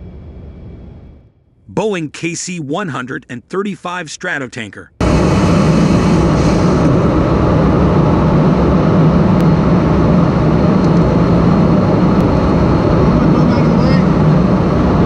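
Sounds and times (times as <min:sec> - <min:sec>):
jet cabin airflow and engines: 0:00.0 - 0:15.0.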